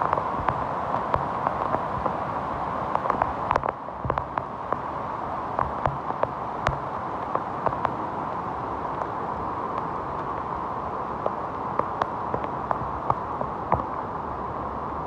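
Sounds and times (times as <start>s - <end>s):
raindrops tapping near microphone: 0.0s - 14.2s.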